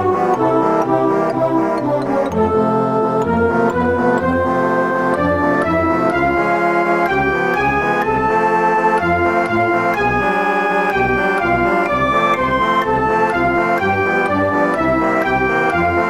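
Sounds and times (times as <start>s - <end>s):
organ-like keyboard chords: 0.0s - 16.0s.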